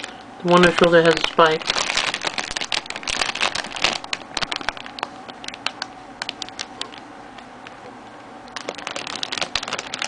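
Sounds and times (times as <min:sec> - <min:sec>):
plastic parts crinkling and clicking: 0:00.0 - 0:07.0, 0:08.6 - 0:10.0.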